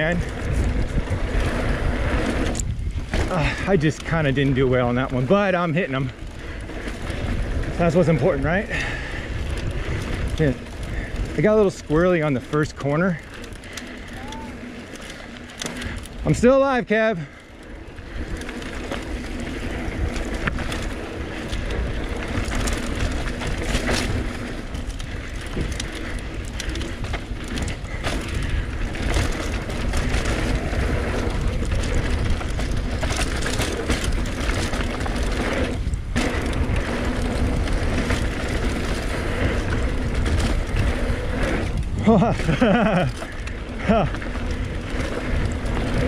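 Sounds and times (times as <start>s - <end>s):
wind buffeting microphone: 0.0s - 16.5s, 17.6s - 46.0s
bike rattling and knocking: 0.0s - 46.0s
tyres rolling over dirt: 0.0s - 46.0s.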